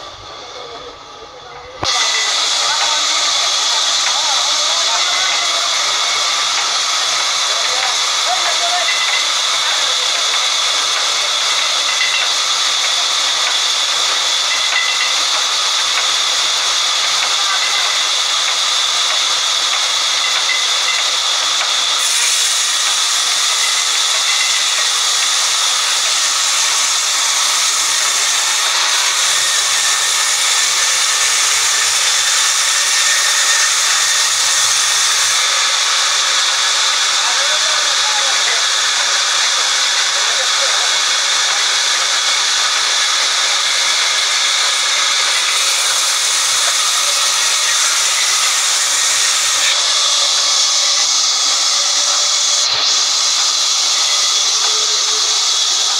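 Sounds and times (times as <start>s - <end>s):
band saw cutting log: 1.8s - 55.9s.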